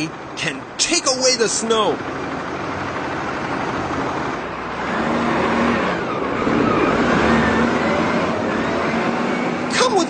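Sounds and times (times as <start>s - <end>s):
low engine hum: 0.0s - 10.0s
traffic noise: 0.0s - 10.0s.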